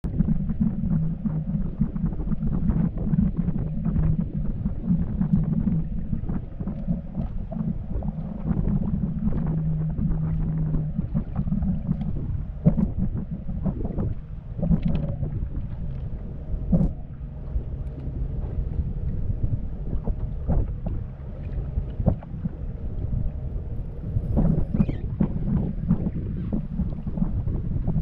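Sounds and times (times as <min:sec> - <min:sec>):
boat motor humming: 0:00.1 - 0:28.0
wind buffeting microphone: 0:00.1 - 0:28.0.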